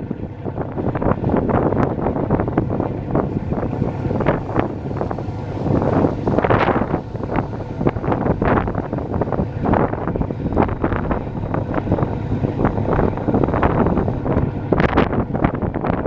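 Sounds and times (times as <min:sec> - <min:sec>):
boat low rumble: 0:00.0 - 0:16.0
wind buffeting microphone: 0:00.0 - 0:16.0.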